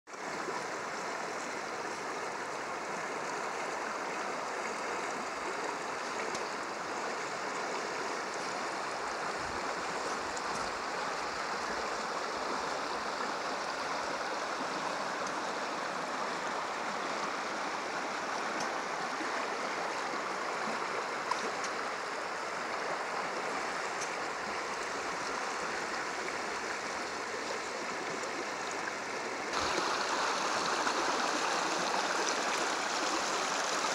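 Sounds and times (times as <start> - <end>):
creek water rushing over gravel: 0.1 - 33.9.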